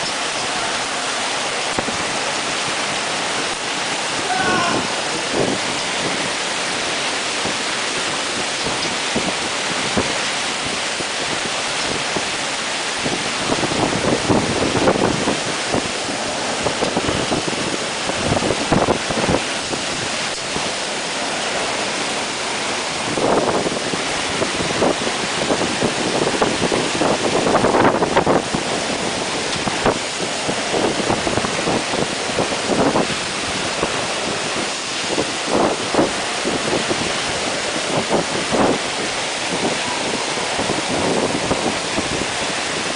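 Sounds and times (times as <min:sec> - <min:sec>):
heavy rain and wind hiss: 0:00.0 - 0:42.9
wind buffeting microphone: 0:00.0 - 0:42.9.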